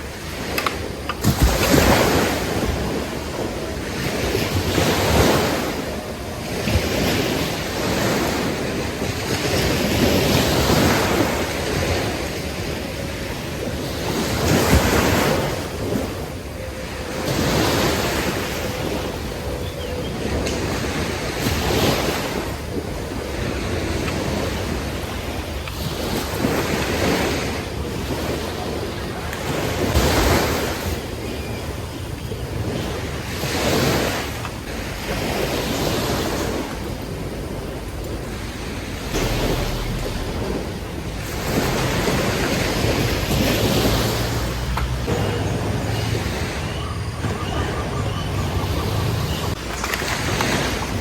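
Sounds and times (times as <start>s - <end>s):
sea waves breaking: 0.0s - 51.0s
wind buffeting microphone: 0.0s - 51.0s.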